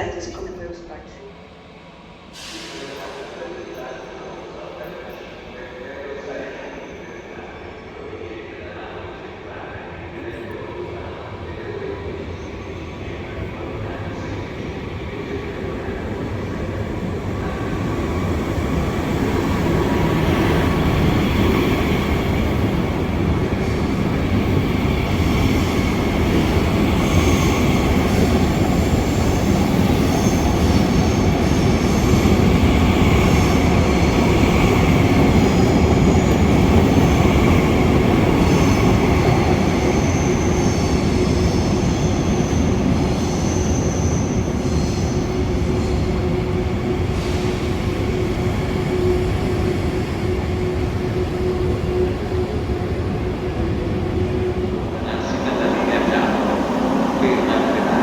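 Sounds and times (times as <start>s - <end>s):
train rumbling: 8.0s - 58.0s.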